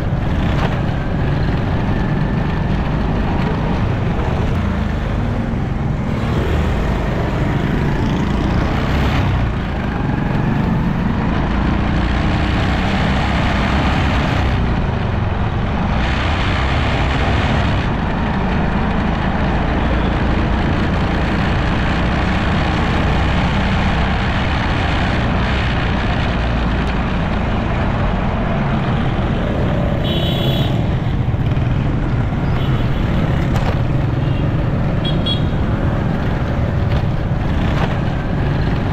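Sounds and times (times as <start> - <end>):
motorcycle engine: 0.0 - 38.9
other vehicles: 0.0 - 38.9.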